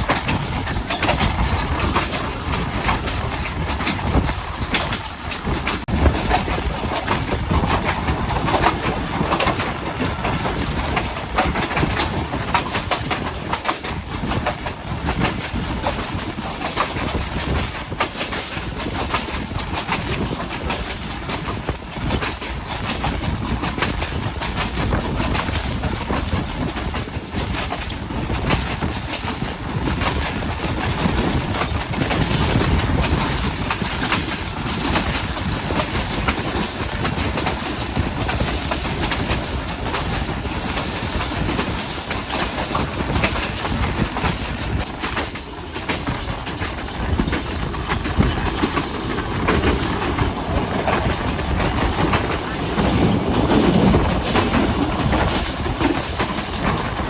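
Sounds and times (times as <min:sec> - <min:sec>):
train rumbling on track: 0:00.0 - 0:57.0
train wheels clicking over rail joints: 0:00.0 - 0:57.0.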